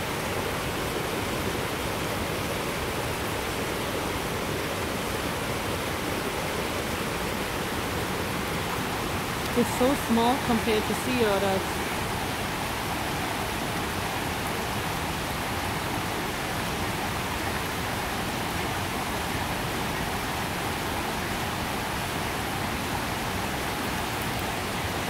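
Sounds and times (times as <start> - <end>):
steady hiss of water: 0.0 - 25.0.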